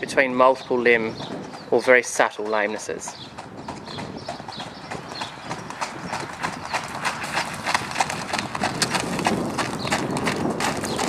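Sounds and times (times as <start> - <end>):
horse hoofbeats on dirt: 0.0 - 11.0.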